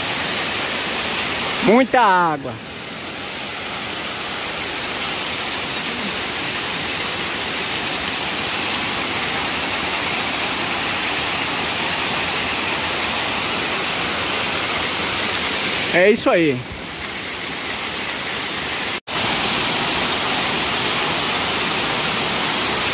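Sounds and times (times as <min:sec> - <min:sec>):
waterfall rushing over rocks: 0:00.0 - 0:22.9.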